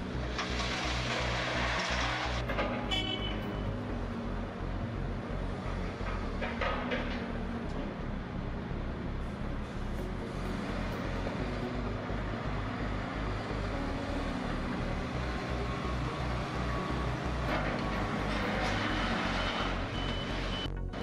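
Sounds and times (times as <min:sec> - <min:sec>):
truck diesel engine throbbing: 0:00.0 - 0:21.0.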